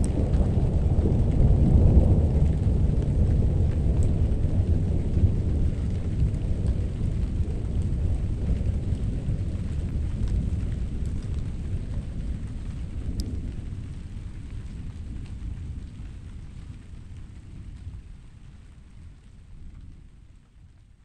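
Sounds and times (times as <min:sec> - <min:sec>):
thunder rumbling: 0:00.0 - 0:20.9
raindrop ticks: 0:00.0 - 0:21.0.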